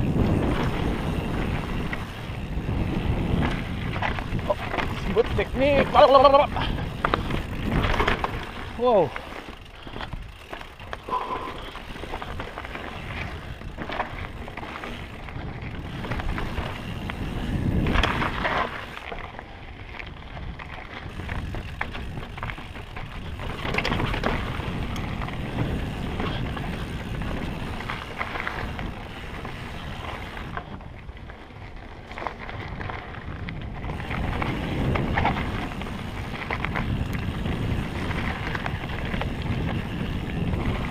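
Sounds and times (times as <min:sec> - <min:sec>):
tyres rumbling on rock: 0:00.0 - 0:30.7, 0:32.0 - 0:40.9
bike knocks and rattles: 0:00.0 - 0:40.9
wind buffeting microphone: 0:00.0 - 0:40.9.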